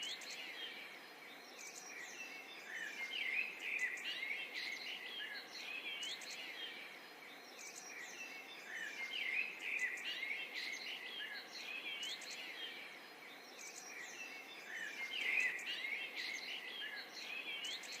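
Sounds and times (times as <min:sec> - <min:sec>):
birds chirping and singing: 0:00.0 - 0:18.0
steady background hiss: 0:00.0 - 0:18.0.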